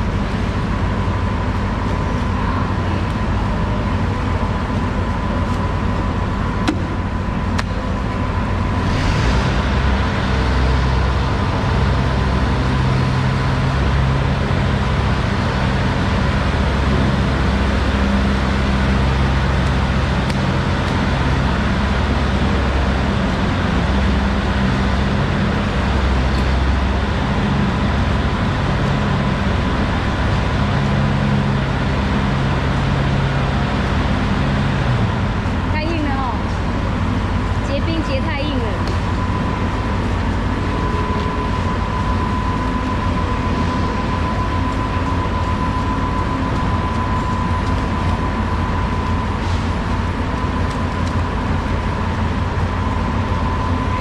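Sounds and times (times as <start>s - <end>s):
low mechanical rumble: 0.0s - 54.0s.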